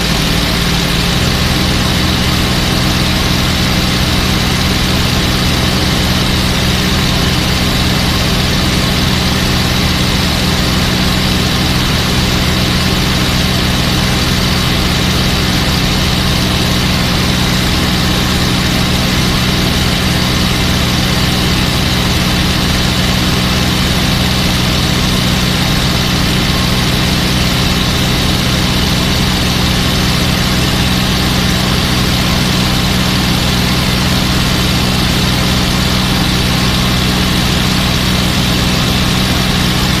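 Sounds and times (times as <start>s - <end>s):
piston aircraft engine running: 0.0s - 40.0s.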